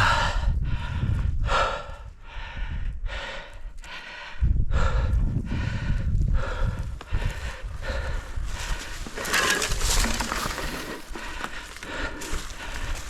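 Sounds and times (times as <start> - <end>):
cyclist breathing hard: 0.0 - 13.0.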